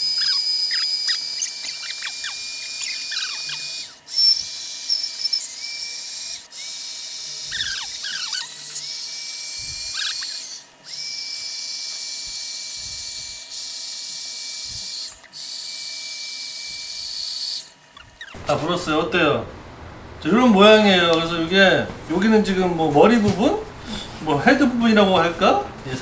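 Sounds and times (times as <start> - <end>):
electric air pump whining: 0.0 - 26.0.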